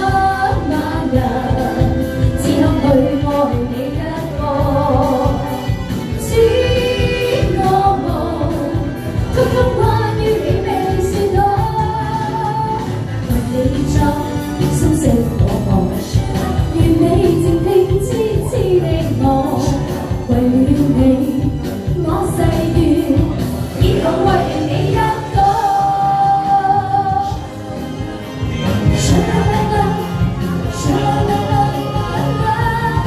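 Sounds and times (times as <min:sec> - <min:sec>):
karaoke backing track: 0:00.0 - 0:33.0
woman singing into microphone: 0:00.0 - 0:33.0.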